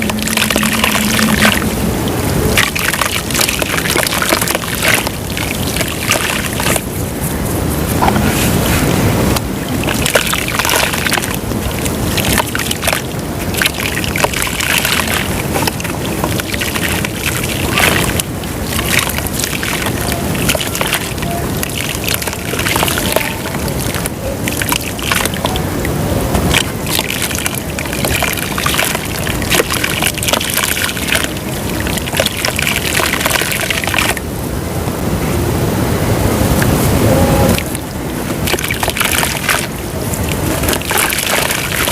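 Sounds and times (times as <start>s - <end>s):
dirt crackling and fizzing in water: 0.0s - 34.3s, 37.5s - 41.9s
water sloshing: 0.0s - 34.5s, 36.4s - 41.9s.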